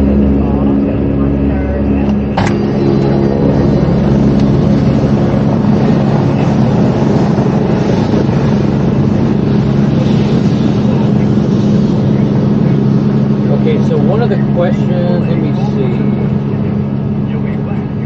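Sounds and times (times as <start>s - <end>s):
mechanical drone with low hum: 0.0s - 18.0s.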